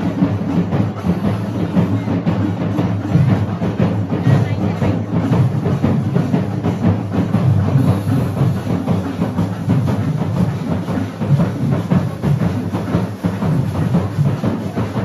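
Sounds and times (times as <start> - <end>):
drum ensemble playing fast beat: 0.0 - 15.0.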